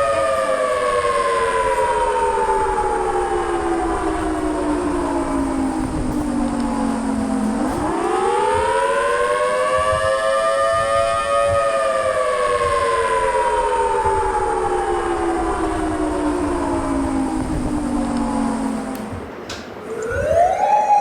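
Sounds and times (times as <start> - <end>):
warning siren winding: 0.0 - 19.3.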